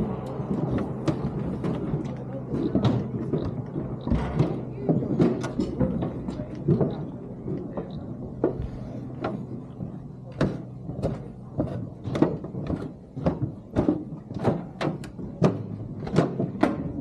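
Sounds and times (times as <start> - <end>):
footsteps on metal stairs: 0.0 - 17.0.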